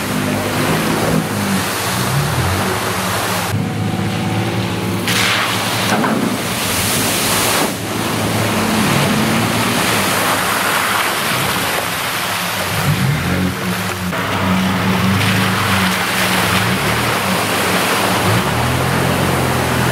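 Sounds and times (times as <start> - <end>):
water and mud splashing: 0.0 - 19.9.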